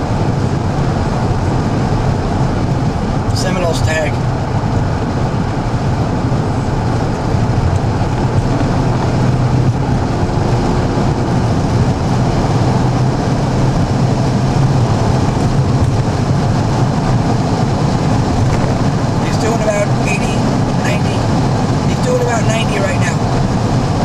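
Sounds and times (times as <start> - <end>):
car interior road and engine noise: 0.0 - 24.0
constant low hum: 0.0 - 24.0.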